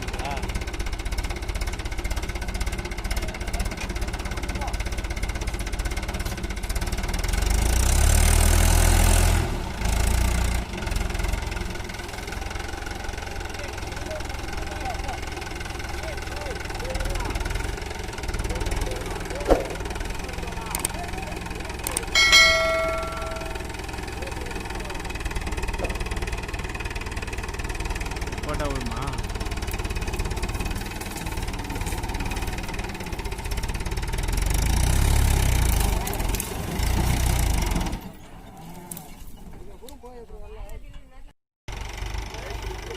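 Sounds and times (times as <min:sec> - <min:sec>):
tractor diesel engine revving: 0:00.0 - 0:39.6, 0:41.7 - 0:42.9.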